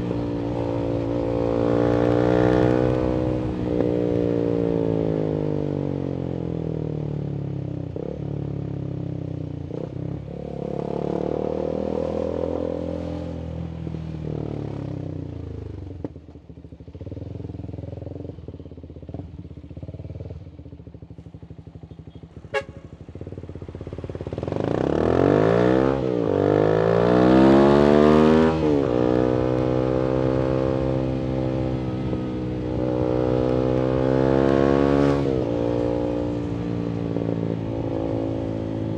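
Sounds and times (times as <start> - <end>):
motorcycle engine accelerating: 0.0 - 13.3, 14.0 - 38.9.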